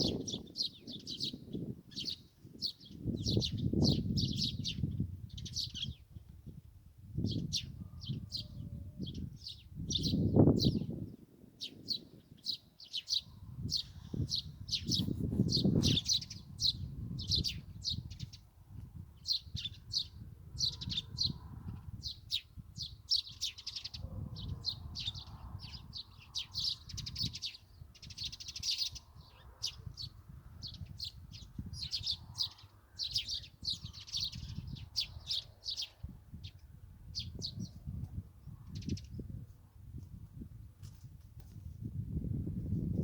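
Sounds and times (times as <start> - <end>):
songbirds chirping: 0.0 - 39.5.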